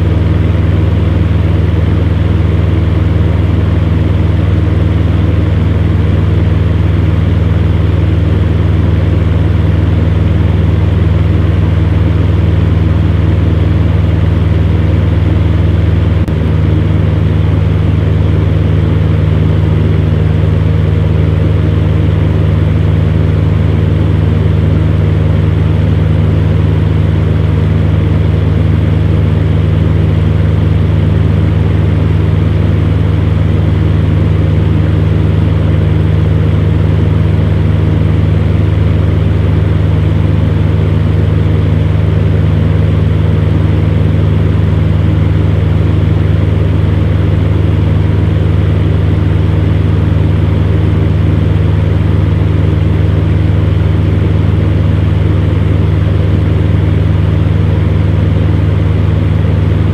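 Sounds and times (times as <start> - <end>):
electric fan running: 0.0 - 59.9.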